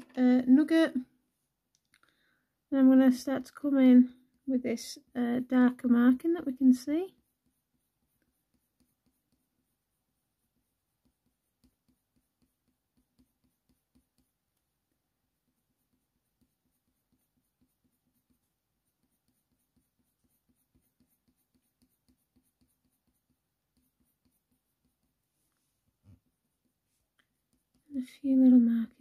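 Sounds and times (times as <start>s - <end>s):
pencil scratching on paper: 2.9s - 28.6s.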